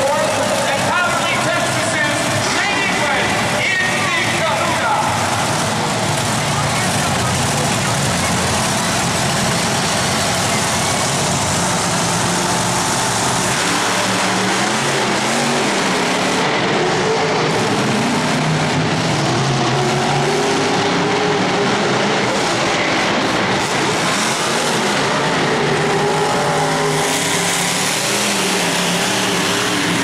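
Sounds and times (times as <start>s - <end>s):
loud arena din: 0.0s - 30.0s
truck engines revving: 0.0s - 30.0s.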